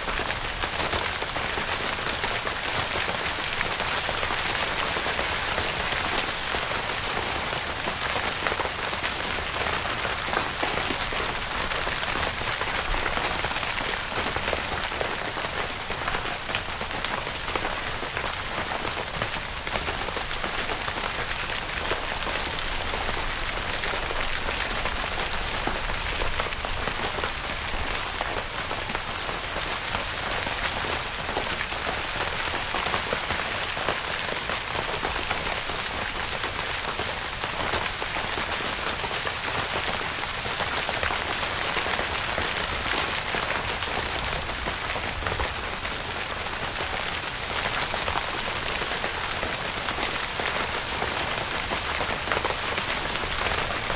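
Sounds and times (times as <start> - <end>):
rain falling on a tent: 0.0 - 53.9.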